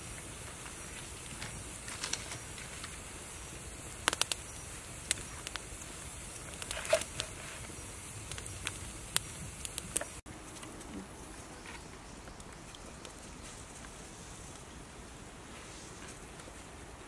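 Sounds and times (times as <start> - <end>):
wood fire crackling and popping: 0.0 - 11.0, 11.6 - 14.7.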